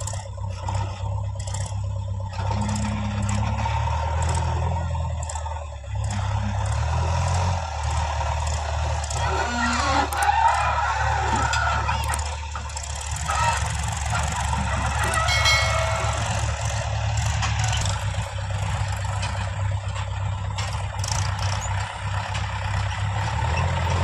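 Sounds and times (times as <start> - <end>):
diesel engines droning: 0.0 - 24.0.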